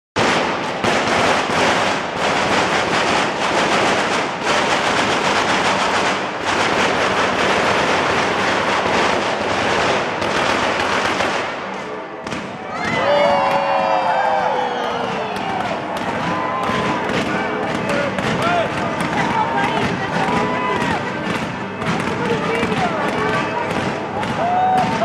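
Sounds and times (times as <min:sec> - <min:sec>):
fireworks and firecrackers banging: 0:00.2 - 0:25.0.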